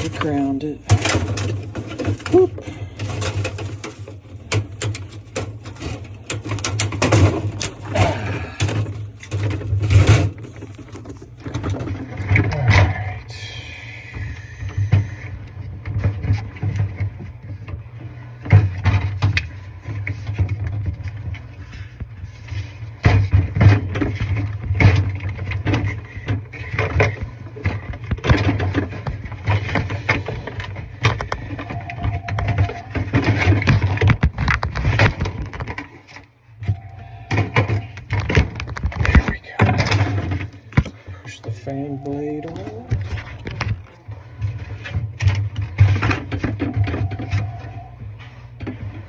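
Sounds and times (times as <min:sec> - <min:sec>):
clicks knocks and rustling: 0:00.0 - 0:13.2, 0:18.4 - 0:41.4, 0:42.6 - 0:47.6
steady low hum: 0:00.0 - 0:49.0.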